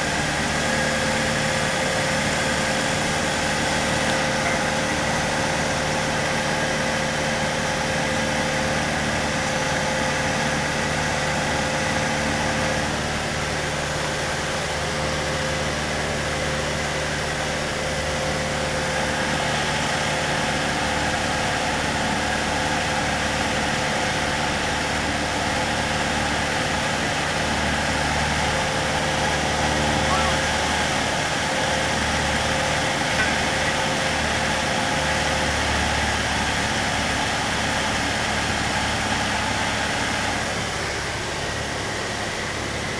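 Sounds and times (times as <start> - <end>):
propeller plane engine droning: 0.0 - 42.9.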